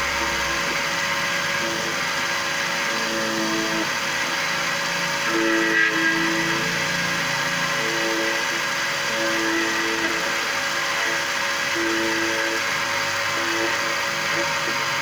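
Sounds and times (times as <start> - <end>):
key cutting machine milling: 0.0 - 15.0.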